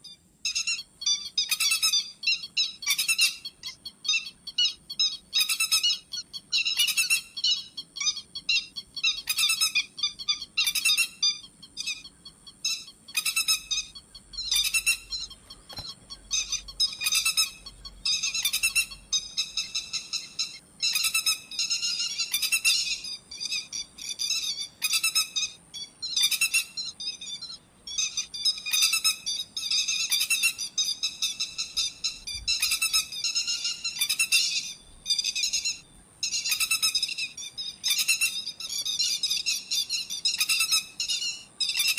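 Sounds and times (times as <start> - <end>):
plover whistled calls: 0.0 - 41.9.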